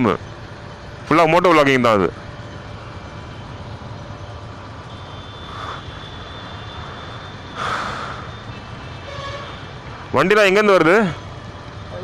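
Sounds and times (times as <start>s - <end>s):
road noise: 0.0s - 12.0s
vehicle engines rumbling: 0.0s - 12.0s.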